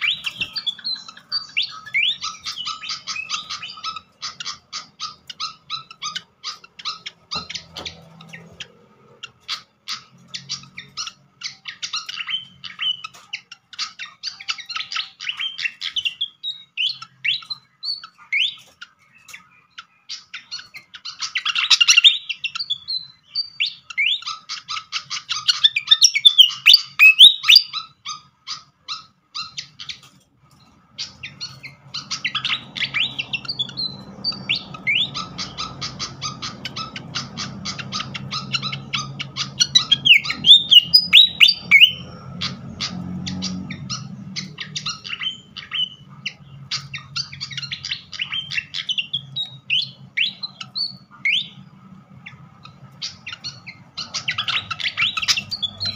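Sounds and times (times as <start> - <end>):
bird chirping and whistling: 0.0 - 8.5, 10.0 - 13.2, 13.8 - 19.4, 20.1 - 28.0, 31.0 - 51.7, 52.6 - 55.9.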